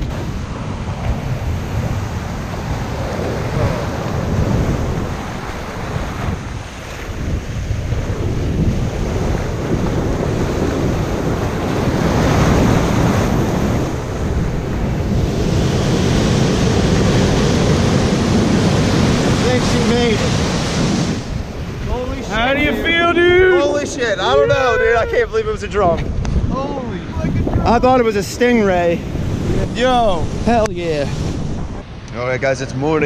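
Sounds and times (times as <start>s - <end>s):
ocean surf breaking: 0.0s - 33.0s
wind buffeting microphone: 0.0s - 33.0s.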